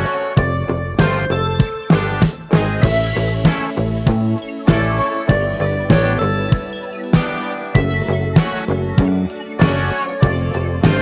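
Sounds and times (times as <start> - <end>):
music with a steady beat: 0.0 - 11.0.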